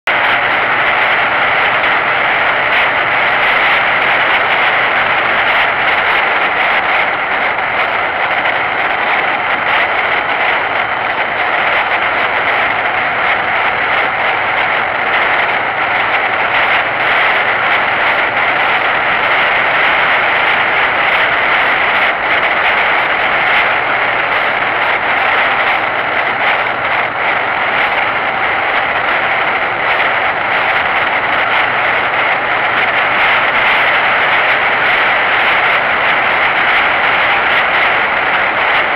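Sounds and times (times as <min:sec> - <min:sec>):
road and wind noise: 0:00.0 - 0:38.9
motorcycle engine cruising: 0:00.1 - 0:38.9.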